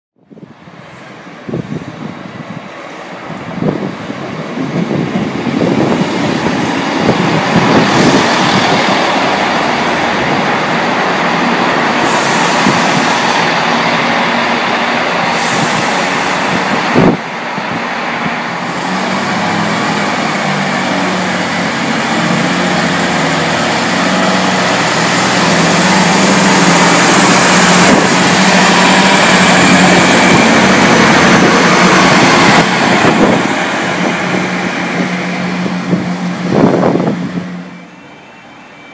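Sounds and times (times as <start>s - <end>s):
diesel train engines droning: 0.2s - 38.9s
train rumble: 0.2s - 38.9s.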